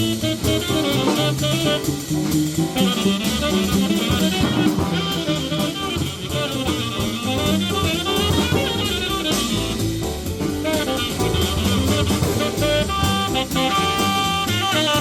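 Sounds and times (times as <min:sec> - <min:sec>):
jazz quartet playing swing: 0:00.0 - 0:15.0.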